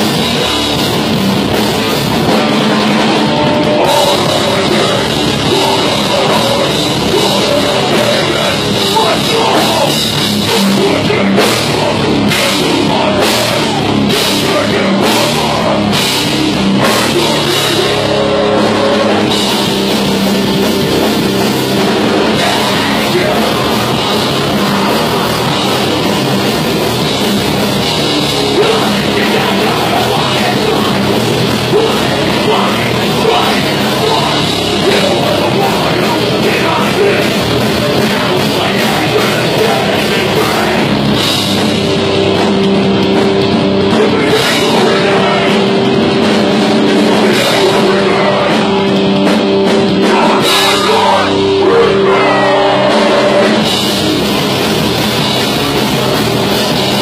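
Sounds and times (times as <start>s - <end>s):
bass guitar: 0.0s - 57.0s
distorted guitars: 0.0s - 57.0s
drum kit: 0.0s - 57.0s.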